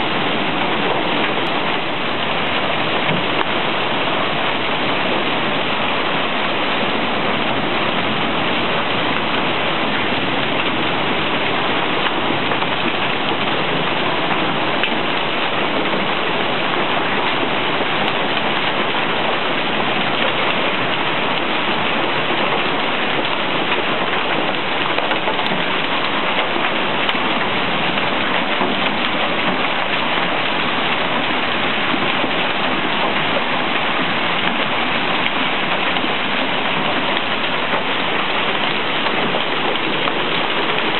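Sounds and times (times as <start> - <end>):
hail and rain on pavement: 0.0 - 40.9.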